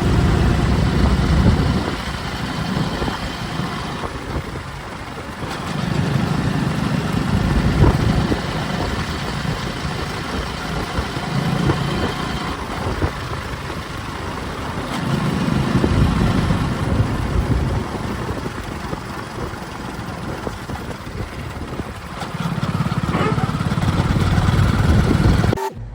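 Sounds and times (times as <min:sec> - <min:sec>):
diesel engine of backhoe loader: 0:00.0 - 0:25.9.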